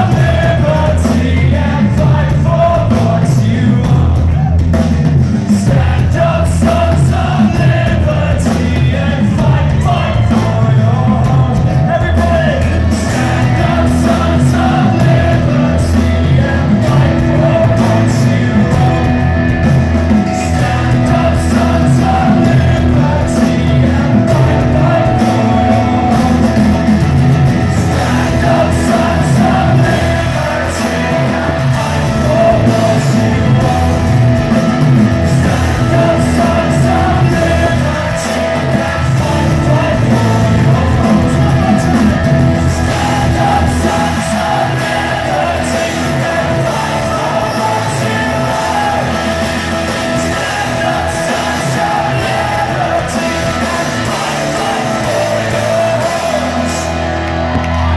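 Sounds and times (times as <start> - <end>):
person singing: 0.0 - 4.7, 5.4 - 57.9
live rock band playing: 0.0 - 57.9.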